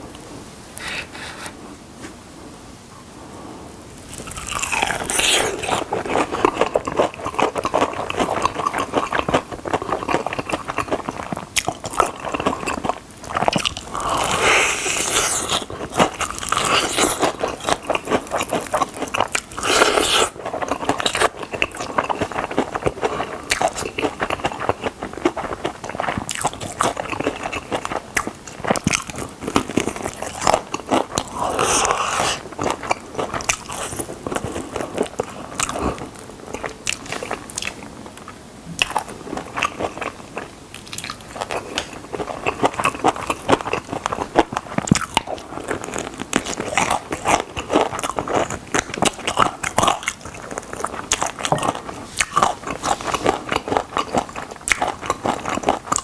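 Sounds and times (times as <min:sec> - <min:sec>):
crunching bites and chewing: 0:04.1 - 0:56.0.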